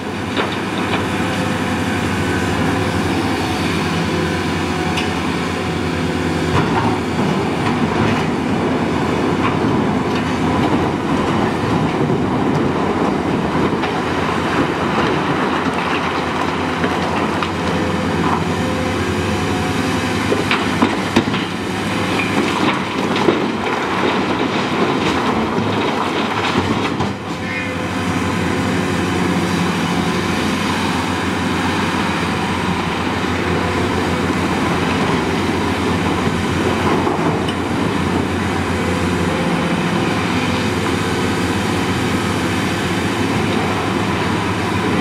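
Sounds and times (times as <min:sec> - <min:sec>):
excavator engine and hydraulics: 0:00.0 - 0:45.0.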